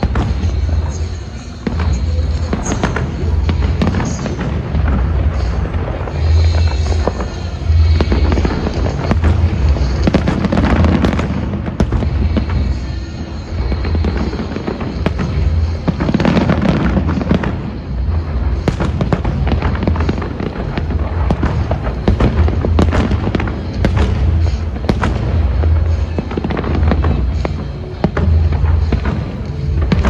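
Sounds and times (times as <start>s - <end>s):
fireworks bangs and crackles: 0.0s - 30.0s
loud music with heavy bass: 0.0s - 30.0s.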